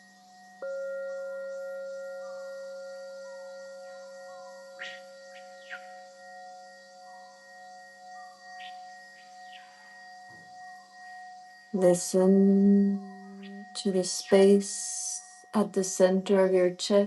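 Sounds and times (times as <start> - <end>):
faint gliding chirps: 0.0 - 16.6
singing bowl ringing: 0.0 - 17.0.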